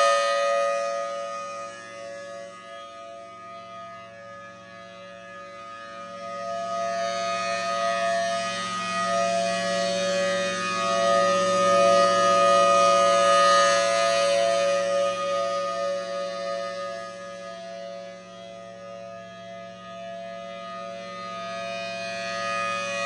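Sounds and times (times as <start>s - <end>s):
warning siren two-tone chord: 0.0s - 23.0s.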